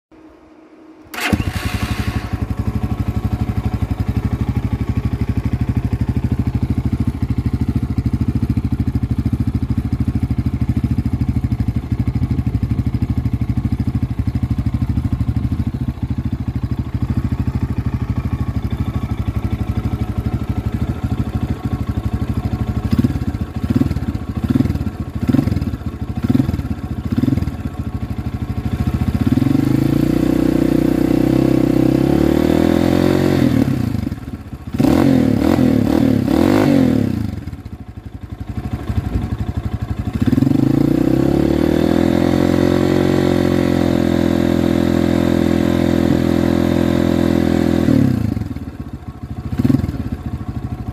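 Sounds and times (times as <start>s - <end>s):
motorcycle engine idling and revving: 1.1s - 50.9s.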